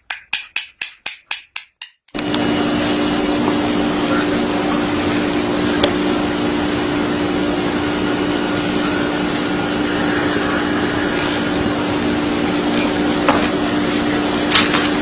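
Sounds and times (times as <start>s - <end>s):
machine hum: 2.2s - 15.0s.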